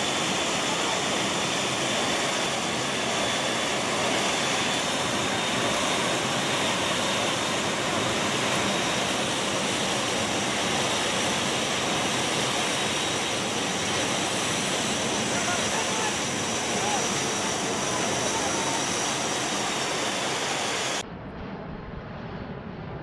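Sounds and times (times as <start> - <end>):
aircraft engines roaring: 0.0 - 23.0
rushing wind: 0.0 - 23.0.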